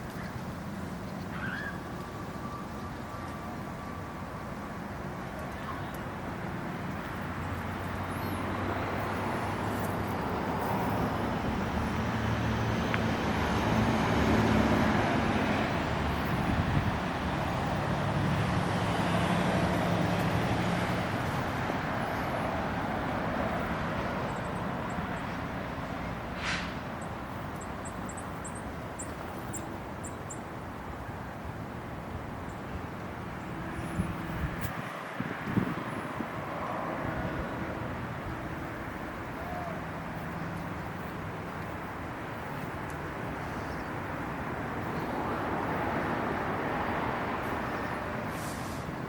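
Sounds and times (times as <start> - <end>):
vehicle engine hum and tyre noise: 0.0 - 49.0.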